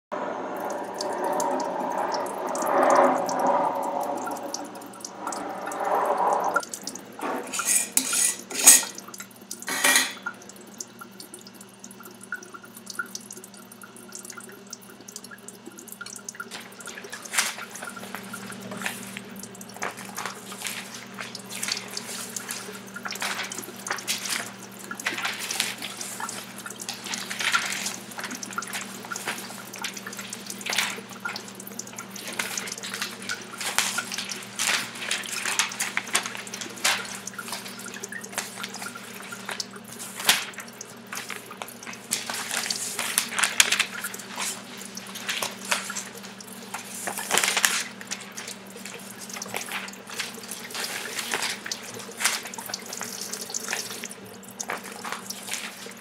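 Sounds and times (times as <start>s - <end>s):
water dripping: 0.4s - 56.0s
water running and splashing: 0.4s - 56.0s.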